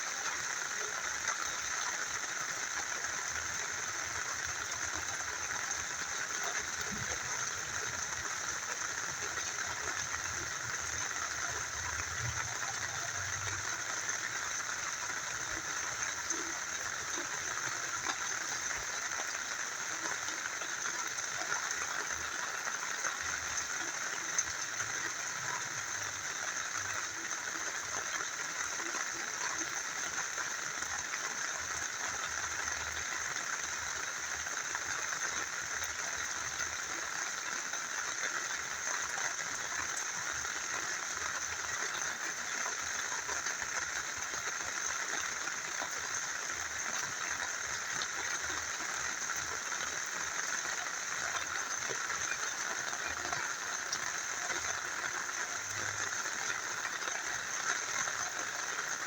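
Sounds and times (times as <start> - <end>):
small river flowing: 0.0 - 59.0
steady rain: 0.0 - 59.0.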